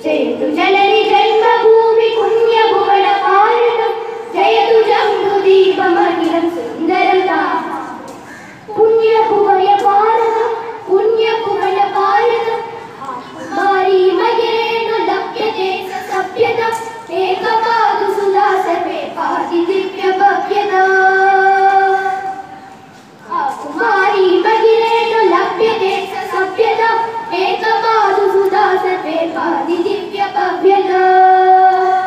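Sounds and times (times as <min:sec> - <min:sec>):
children singing: 0:00.0 - 0:08.1, 0:08.7 - 0:22.6, 0:23.3 - 0:32.0.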